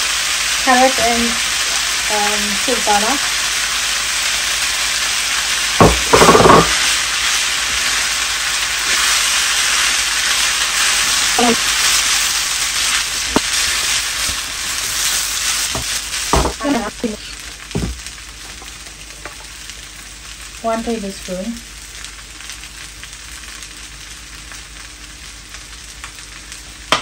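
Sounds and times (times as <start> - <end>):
food sizzling in a skillet: 0.0 - 27.0.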